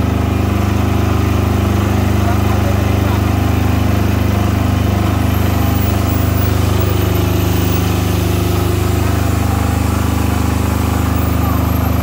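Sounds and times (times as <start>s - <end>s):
diesel generator droning: 0.0s - 12.0s.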